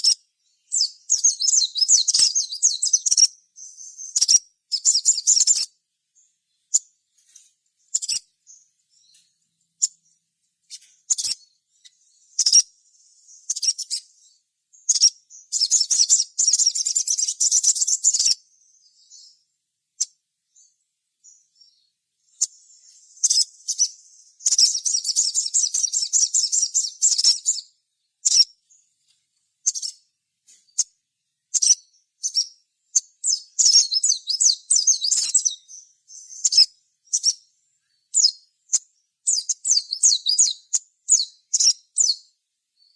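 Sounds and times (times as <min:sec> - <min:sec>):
bird calling with high chips: 0:00.0 - 0:19.4, 0:20.0 - 0:28.6, 0:29.6 - 0:42.3.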